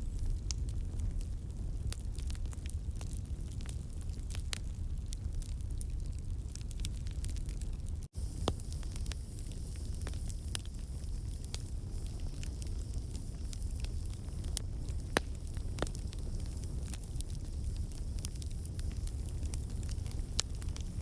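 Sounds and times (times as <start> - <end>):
wood campfire crackling: 0.0 - 21.0.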